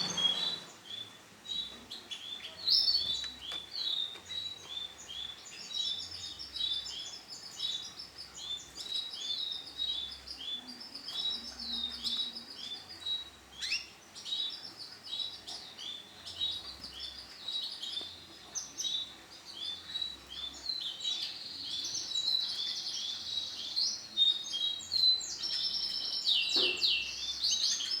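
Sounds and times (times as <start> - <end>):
canary chirping: 0.0 - 28.0.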